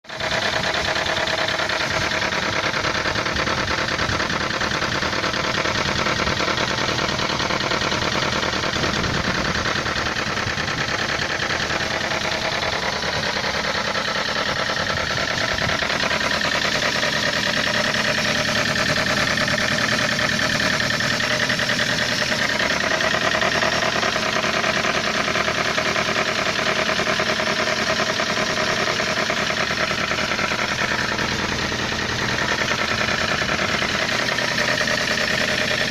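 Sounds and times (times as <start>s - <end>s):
engine idling with knocking clatter: 0.0s - 35.9s.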